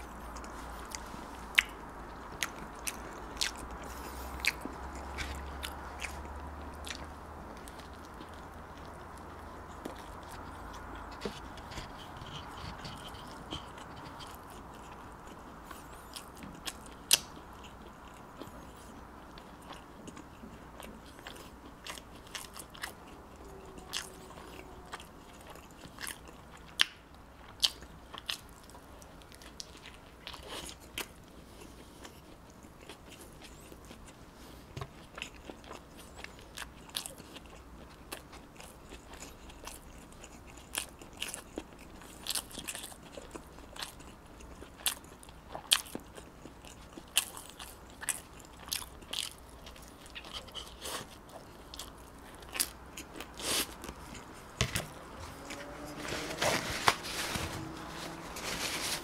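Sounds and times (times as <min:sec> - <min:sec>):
person biting and chewing: 0:00.0 - 0:27.0, 0:34.9 - 0:57.0.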